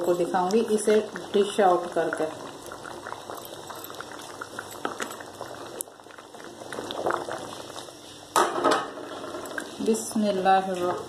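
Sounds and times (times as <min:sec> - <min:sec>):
curry bubbling in pot: 0:00.0 - 0:11.0.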